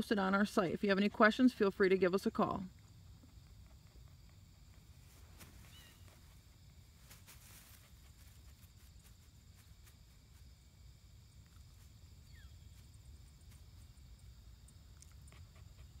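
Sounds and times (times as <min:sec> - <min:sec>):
high insect drone: 0:02.7 - 0:16.0.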